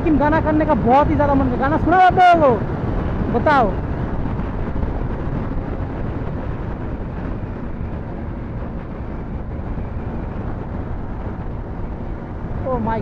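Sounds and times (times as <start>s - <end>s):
motorcycle engine running: 0.0s - 13.0s
wind rush over microphone: 0.0s - 13.0s.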